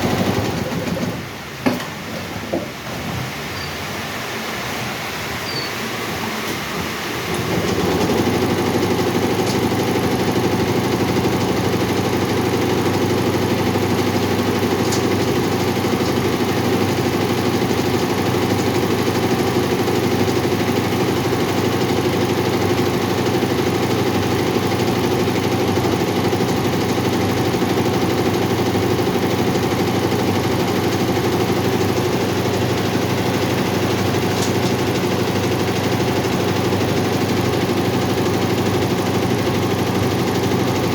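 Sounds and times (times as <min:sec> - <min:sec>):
embroidery machine stitching: 0:00.0 - 0:01.2, 0:07.3 - 0:40.9.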